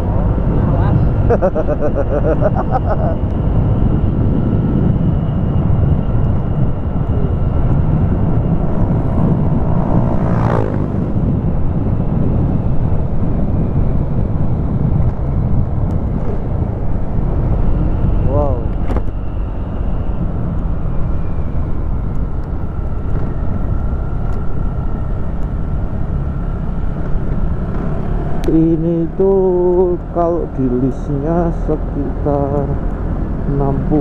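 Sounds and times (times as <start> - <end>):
motorcycle engine: 0.0 - 34.0
road rumble: 0.0 - 34.0
wind noise: 0.0 - 34.0.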